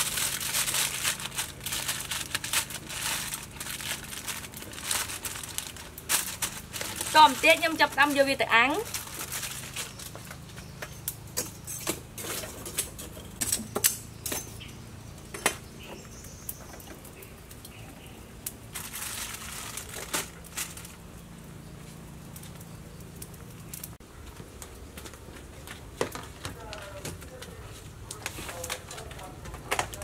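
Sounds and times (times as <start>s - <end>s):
aluminium foil crinkling: 0.0s - 13.6s, 16.5s - 30.0s.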